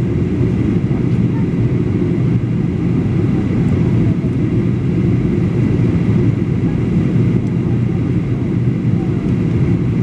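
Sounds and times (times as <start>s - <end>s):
airflow over fuselage: 0.0s - 10.0s
jet engines roaring: 0.0s - 10.0s.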